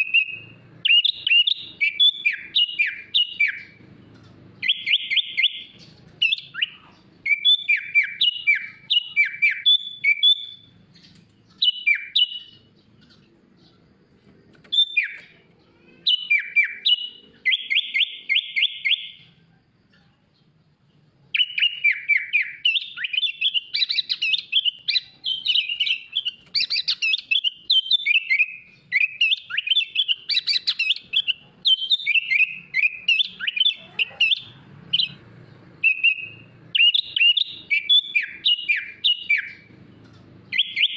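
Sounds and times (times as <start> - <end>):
bird buzzy trills: 0.0 - 19.4, 20.2 - 40.9
bird singing chirps and whistles: 0.0 - 19.4, 21.2 - 40.9.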